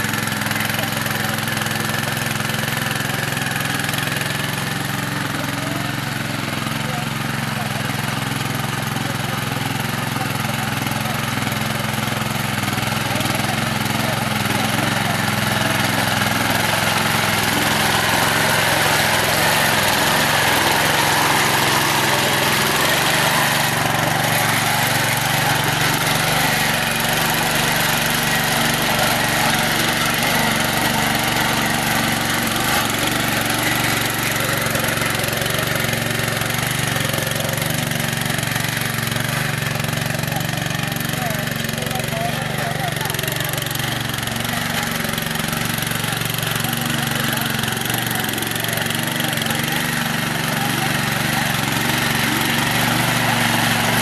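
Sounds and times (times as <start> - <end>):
tiller engine running: 0.0 - 54.0.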